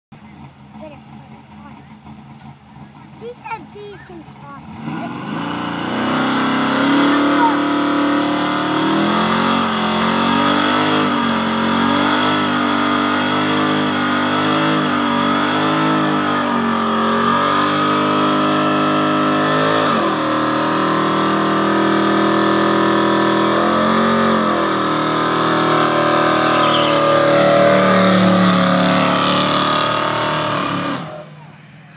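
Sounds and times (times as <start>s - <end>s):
car engine at high revs: 0.1s - 31.9s.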